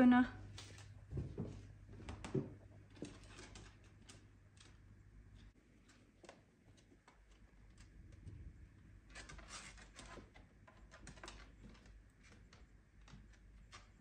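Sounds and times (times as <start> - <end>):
dog claws clicking on wooden floor: 2.0 - 8.4, 9.1 - 14.0.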